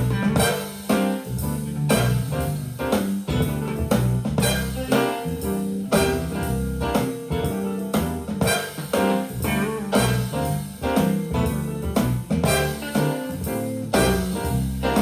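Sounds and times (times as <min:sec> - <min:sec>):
jazz music through speakers: 0:00.0 - 0:15.0.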